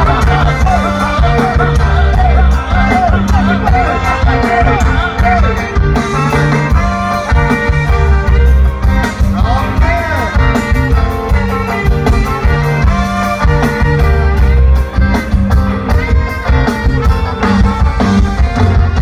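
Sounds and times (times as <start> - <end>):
bass line: 0.0 - 19.0
ska band playing live: 0.0 - 19.0
steady drum beat: 0.0 - 19.0.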